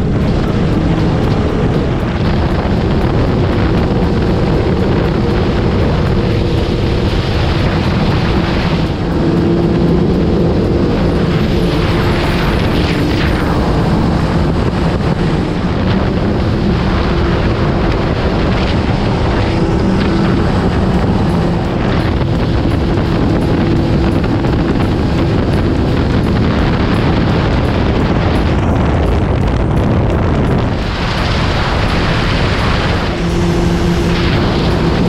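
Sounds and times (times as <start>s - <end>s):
motorcycle engine running: 0.0s - 35.0s
wind rumble on microphone: 0.0s - 35.0s.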